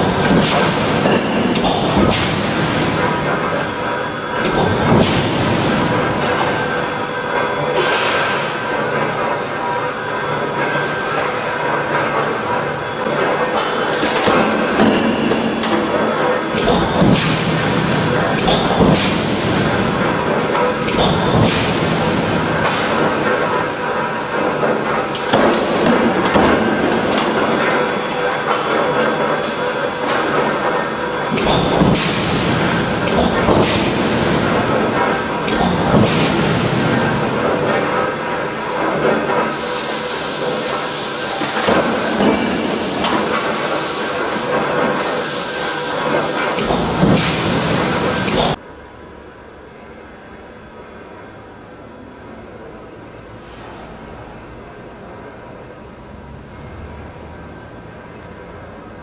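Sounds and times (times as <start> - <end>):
machinery clatter and hum: 0.0 - 59.0.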